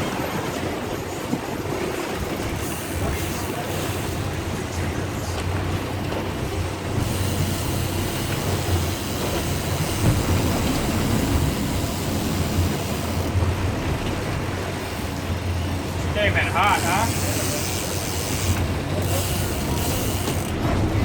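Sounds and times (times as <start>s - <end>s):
boat engine running: 0.0s - 21.0s
rushing water: 0.0s - 21.0s
wind: 0.0s - 21.0s.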